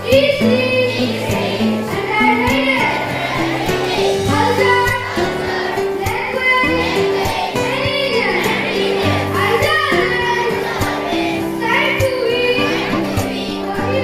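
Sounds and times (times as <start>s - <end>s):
children singing: 0.0s - 14.0s
instrumental backing with beat: 0.0s - 14.0s.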